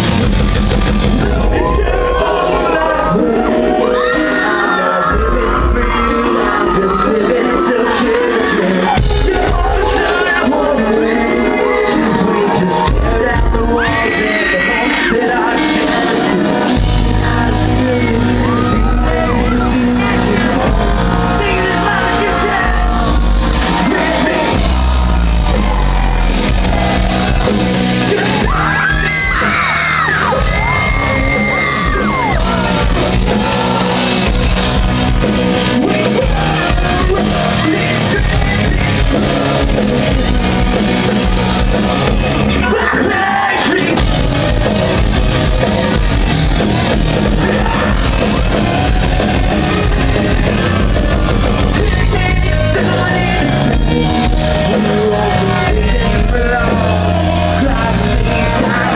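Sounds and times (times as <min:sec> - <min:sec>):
live rock band playing: 0:00.0 - 0:58.9
sung and shouted vocals: 0:01.0 - 0:58.9.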